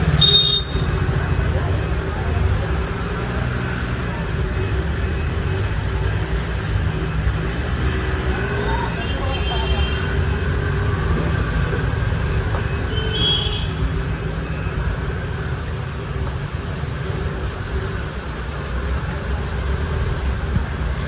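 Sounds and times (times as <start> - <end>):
road vehicles rumbling past: 0.0 - 21.0.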